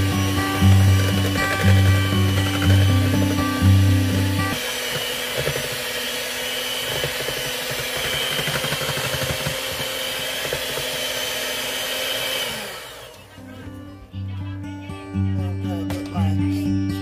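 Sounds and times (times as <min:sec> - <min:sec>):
electric hand mixer whirring: 0:00.0 - 0:13.6.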